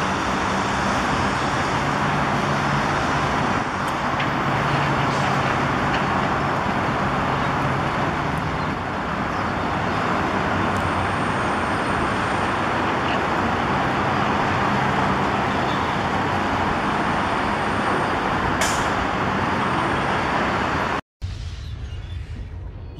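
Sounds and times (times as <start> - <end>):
diesel engines running: 0.0 - 21.0.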